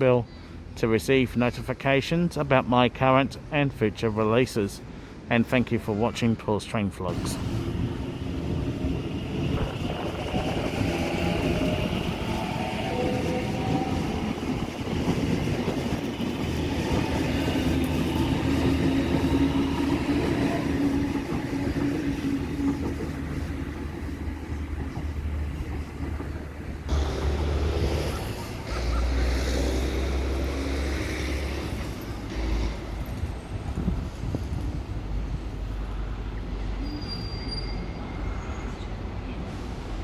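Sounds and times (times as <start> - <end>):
train rumbling on tracks: 7.1 - 40.0.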